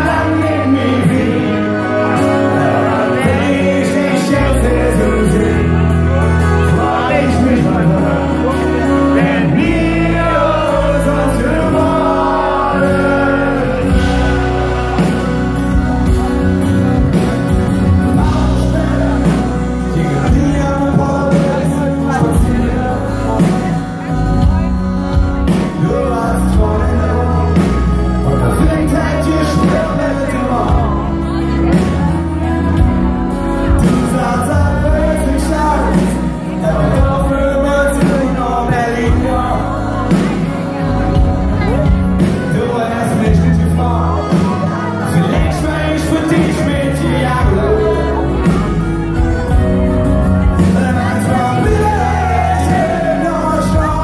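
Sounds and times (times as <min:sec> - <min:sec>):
live band through pa: 0:00.0 - 0:54.0
man singing: 0:00.0 - 0:54.0.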